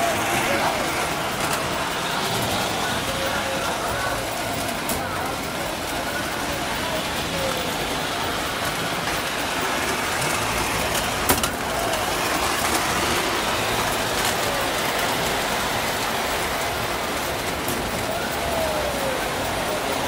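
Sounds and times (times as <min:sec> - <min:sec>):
model train rolling on track: 0:00.0 - 0:20.0.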